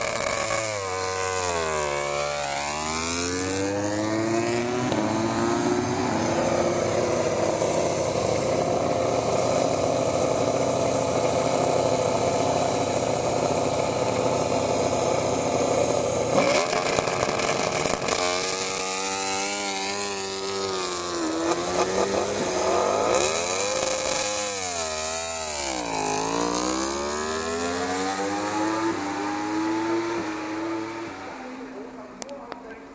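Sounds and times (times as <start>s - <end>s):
racing motorcycle engines revving: 0.0s - 32.9s.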